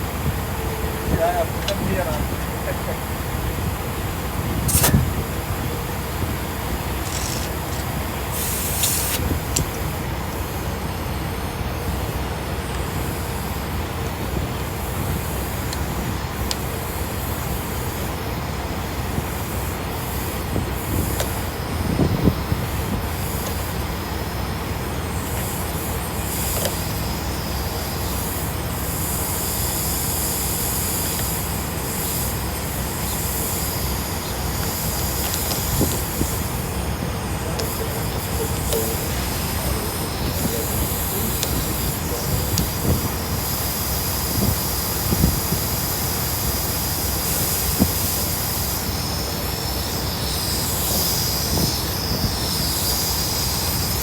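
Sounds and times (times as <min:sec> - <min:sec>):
constant hiss: 0:00.0 - 0:54.0
truck engine rumble: 0:00.0 - 0:54.0.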